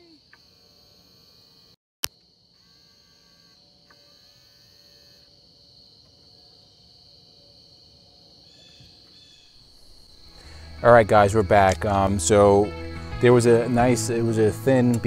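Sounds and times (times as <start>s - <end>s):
insect chorus trilling: 0.0s - 15.0s.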